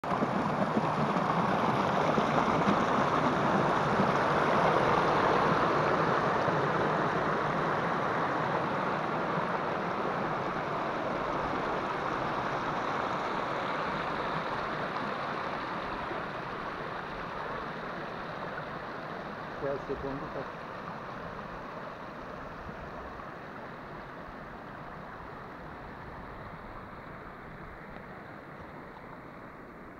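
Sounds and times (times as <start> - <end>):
stream rushing and splashing: 0.0 - 29.9.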